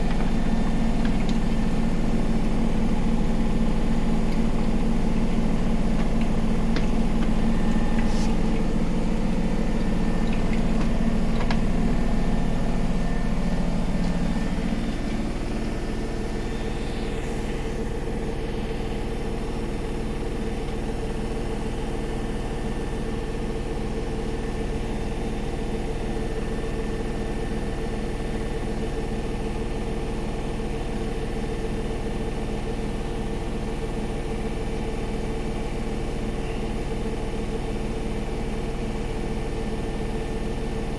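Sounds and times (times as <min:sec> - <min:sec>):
washing machine motor hum: 0:00.0 - 0:40.9.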